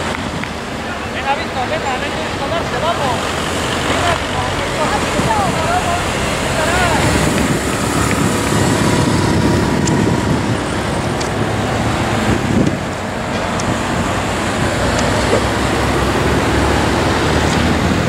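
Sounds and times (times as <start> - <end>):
cars passing close by: 0.0 - 18.0
motorcycle passing: 1.3 - 18.0.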